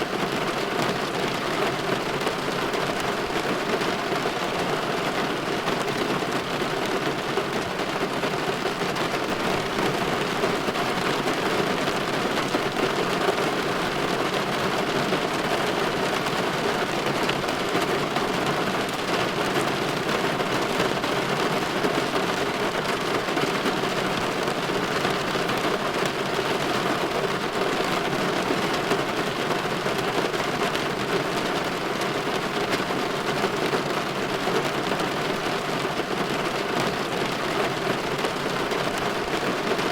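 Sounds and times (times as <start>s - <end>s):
rain against window: 0.1s - 39.9s.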